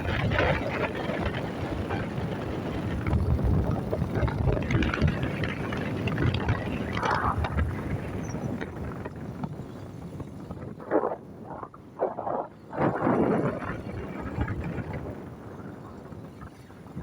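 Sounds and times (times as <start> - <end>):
motorcycle noise: 0.0 - 17.0
wind rumbling on microphone: 0.0 - 17.0.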